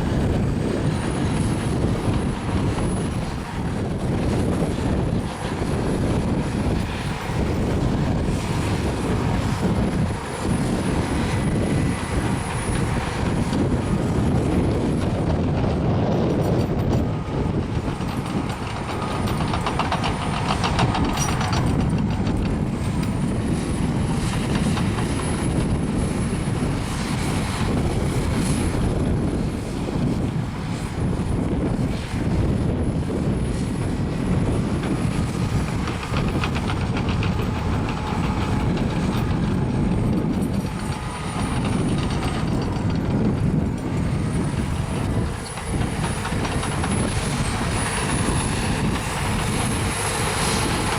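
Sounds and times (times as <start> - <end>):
bulldozer diesel engine: 0.0 - 50.9.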